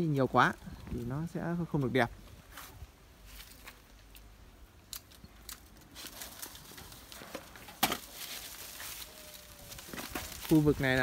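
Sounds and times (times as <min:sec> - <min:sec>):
footsteps on dry leaves: 0:00.6 - 0:04.1, 0:05.7 - 0:11.0.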